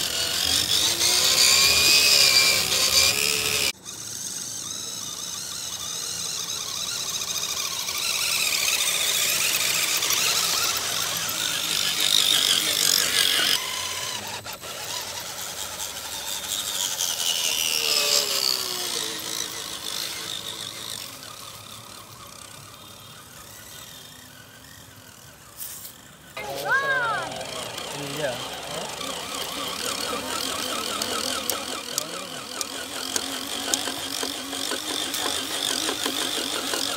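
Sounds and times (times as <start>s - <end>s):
electric motor whining: 0.0s - 36.9s.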